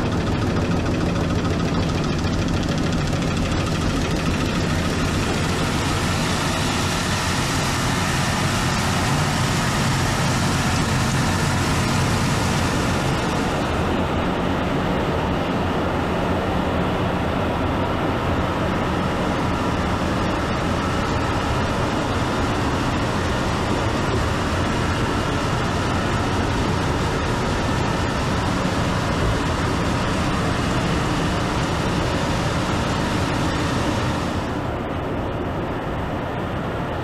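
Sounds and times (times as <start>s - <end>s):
processing machinery running: 0.0s - 15.1s, 18.6s - 34.9s
low hum: 0.0s - 36.9s.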